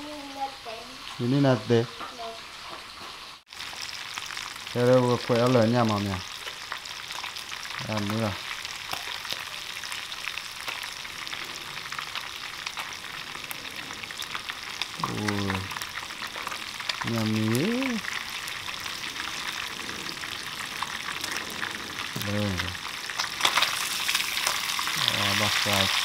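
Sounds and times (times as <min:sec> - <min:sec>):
fish deep-frying in oil: 0:00.0 - 0:26.0.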